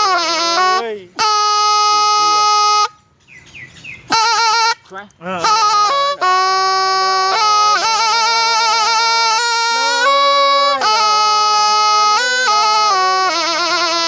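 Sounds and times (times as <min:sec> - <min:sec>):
reed oboe melody: 0:00.0 - 0:14.0.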